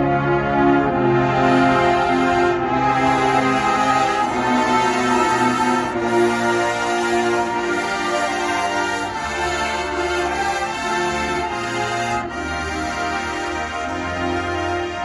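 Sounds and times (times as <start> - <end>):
brass horns playing sustained chords: 0.0 - 15.0
deep brass bass: 0.0 - 15.0.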